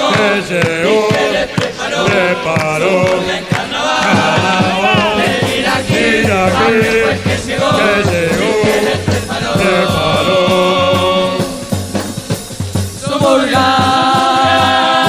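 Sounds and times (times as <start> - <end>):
chorus singing in harmony: 0.0 - 15.0
cymbals: 0.0 - 15.0
bass drum beat: 0.2 - 15.0.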